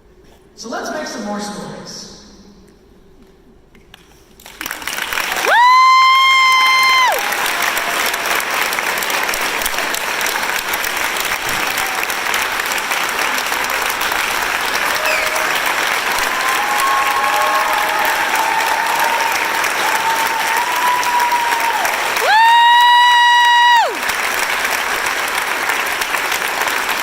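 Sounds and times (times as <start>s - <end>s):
audience applauding: 4.4s - 27.0s.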